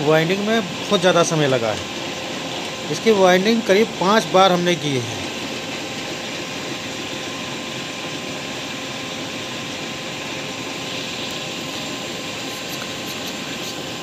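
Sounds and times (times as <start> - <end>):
motor-generator whirring: 0.0 - 14.0.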